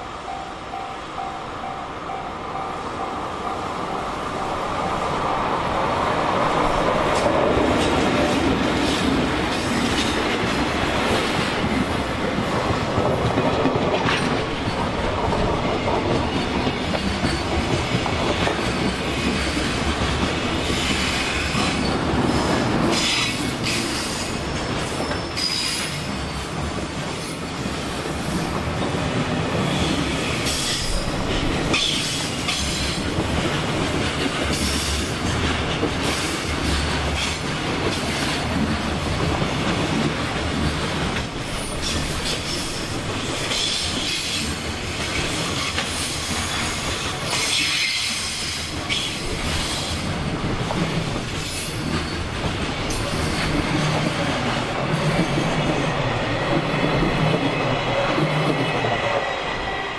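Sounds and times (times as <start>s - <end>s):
train wheels clattering on rails: 1.2s - 59.8s.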